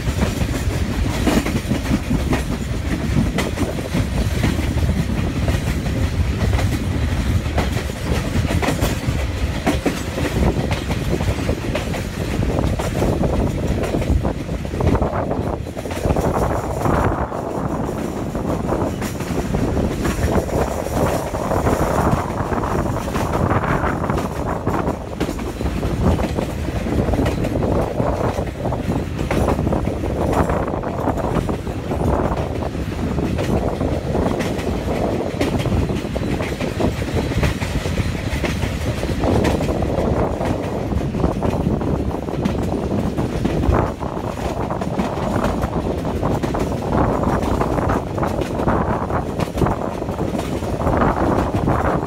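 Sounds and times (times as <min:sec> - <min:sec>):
train knocks and clatter: 0:00.0 - 0:52.0
train wheels rumbling: 0:00.0 - 0:52.0.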